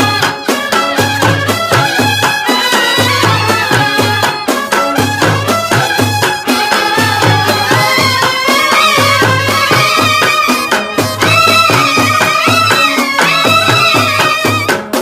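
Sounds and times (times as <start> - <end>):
steady drum beat: 0.0 - 15.0
street band wind instruments: 0.0 - 15.0.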